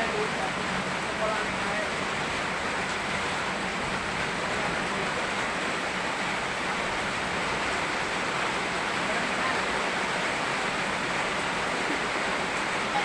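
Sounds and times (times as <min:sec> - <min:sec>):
rain falling: 0:00.0 - 0:13.0
rushing river: 0:00.0 - 0:13.0.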